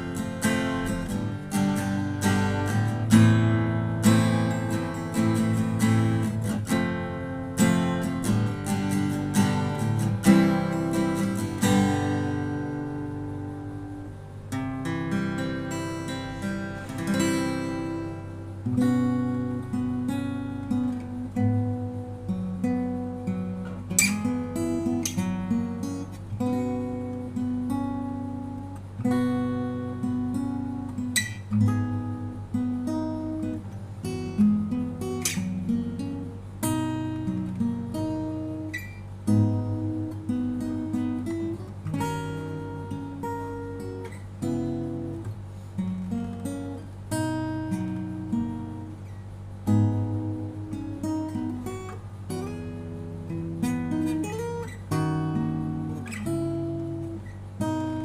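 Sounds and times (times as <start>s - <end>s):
acoustic guitar picking: 0.0s - 58.0s.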